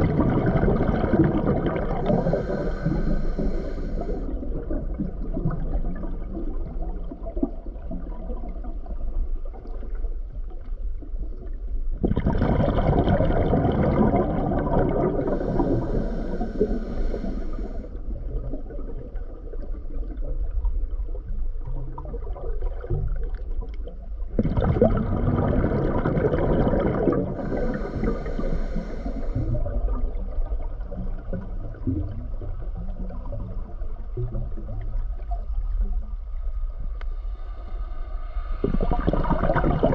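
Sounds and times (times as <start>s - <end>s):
underwater rumble of water: 0.0s - 39.9s.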